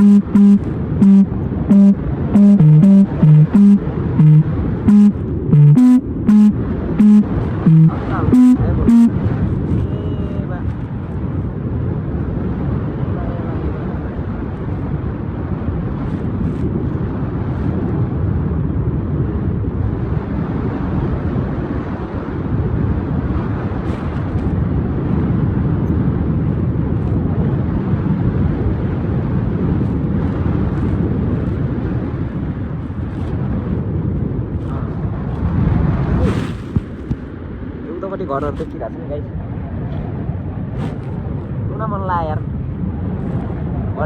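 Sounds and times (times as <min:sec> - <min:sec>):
wind buffeting microphone: 0:03.8 - 0:44.0.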